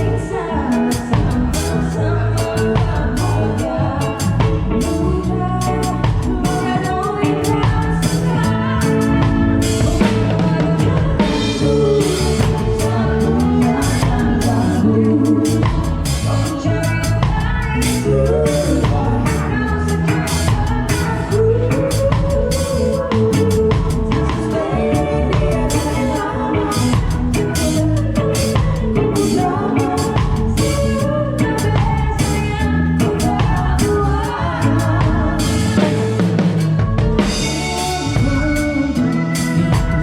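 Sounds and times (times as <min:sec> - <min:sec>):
live pop band playing: 0:00.0 - 0:40.0
woman singing: 0:00.0 - 0:40.0.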